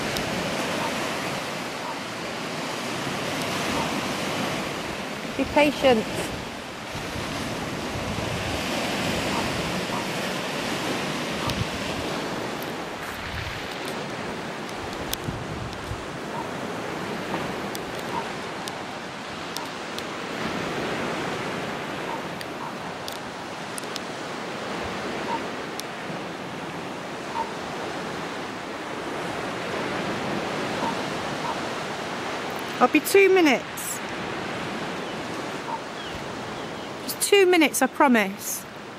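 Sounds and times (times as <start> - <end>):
wind buffeting microphone: 0.0 - 32.8
sea surf breaking: 0.0 - 38.9.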